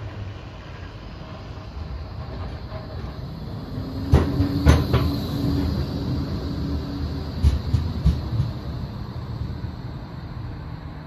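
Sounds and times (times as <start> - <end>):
wheels clacking on track: 0.0 - 10.6
tram rumbling on rails: 0.0 - 11.0.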